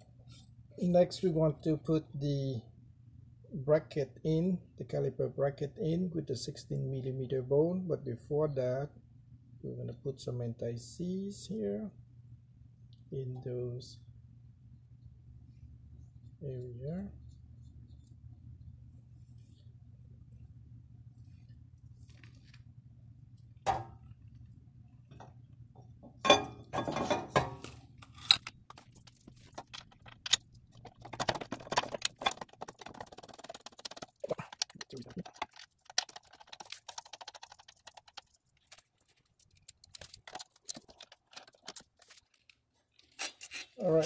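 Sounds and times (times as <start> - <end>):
faint low hum: 0.0 - 44.0.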